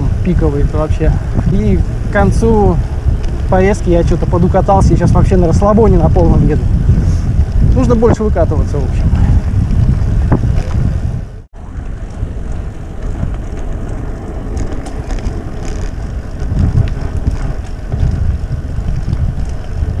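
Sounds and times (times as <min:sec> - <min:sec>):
bike tyres on pavement: 0:00.0 - 0:20.0
wind rushing over microphone: 0:00.0 - 0:20.0.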